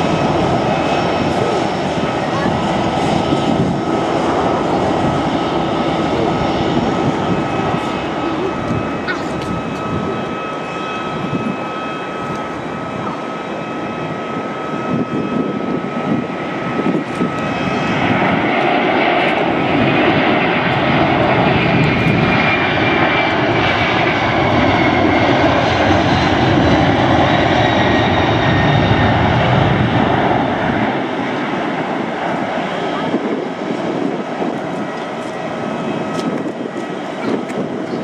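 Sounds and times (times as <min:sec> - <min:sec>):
jet engines whining and roaring: 0:00.0 - 0:38.0.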